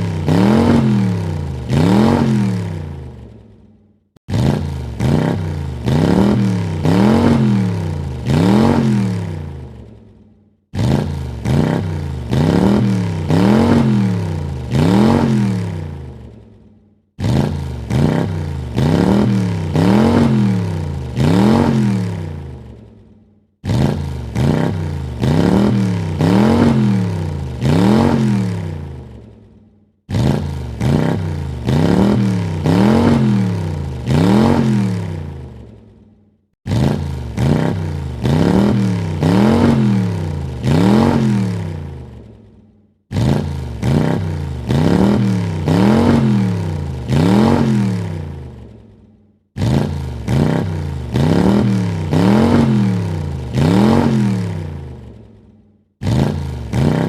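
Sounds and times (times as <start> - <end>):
car engine revving: 0.0 - 3.4, 4.3 - 10.1, 10.7 - 16.4, 17.2 - 23.0, 23.6 - 29.4, 30.1 - 35.8, 36.7 - 42.4, 43.1 - 48.7, 49.6 - 55.3, 56.0 - 57.0.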